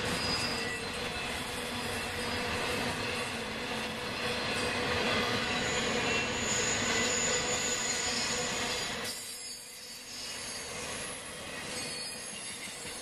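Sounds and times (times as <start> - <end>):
high squeal of wheels on rail: 0.0 - 13.0.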